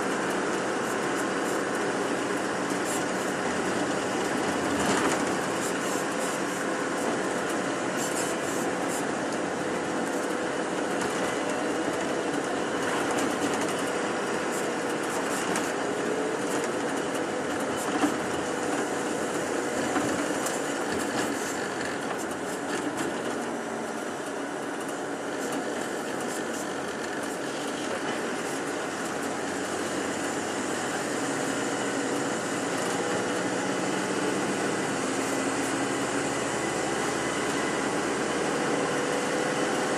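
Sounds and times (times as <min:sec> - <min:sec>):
bus engine and tyres running: 0:00.0 - 0:39.9.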